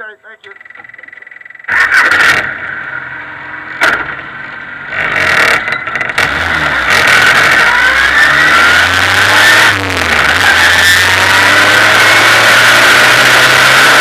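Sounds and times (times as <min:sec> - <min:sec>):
race car engine accelerating: 0:01.7 - 0:14.0.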